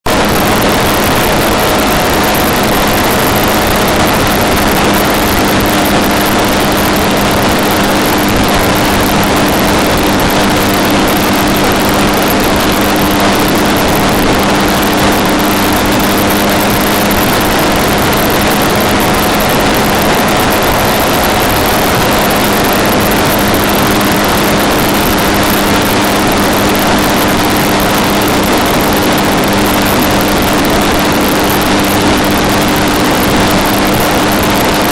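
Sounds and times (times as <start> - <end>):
tyre and wind noise: 0.0 - 34.9
vehicle engine drone: 0.0 - 34.9.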